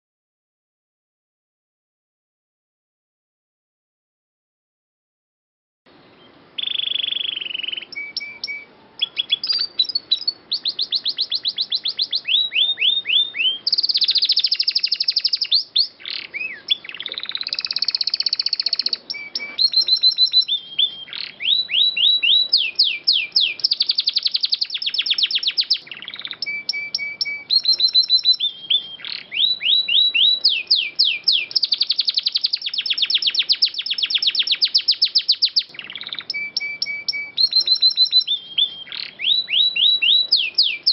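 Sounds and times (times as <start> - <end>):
canary singing trills: 5.9 - 40.9.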